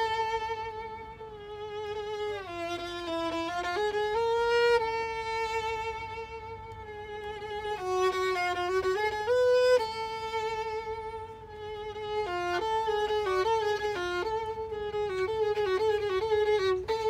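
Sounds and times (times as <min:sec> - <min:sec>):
solo violin slow melody: 0:00.0 - 0:17.0.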